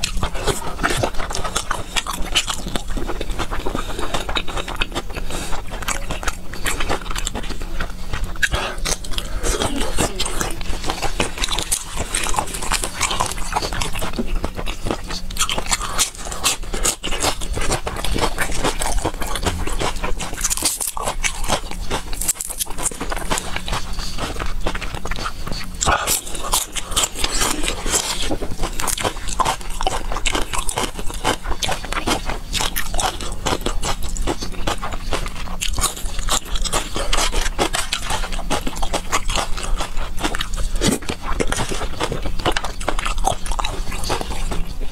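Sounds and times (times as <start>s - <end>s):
crunching bites: 0.0s - 44.9s
person chewing food: 0.0s - 44.9s.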